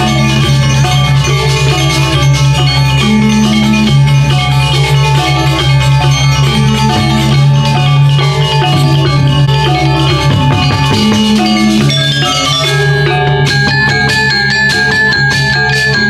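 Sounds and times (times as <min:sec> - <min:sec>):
gamelan playing: 0:00.0 - 0:16.0.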